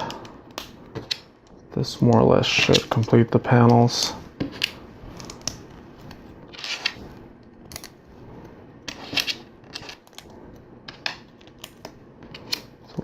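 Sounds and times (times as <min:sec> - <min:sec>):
hands rustling among parts: 0:00.0 - 0:13.0.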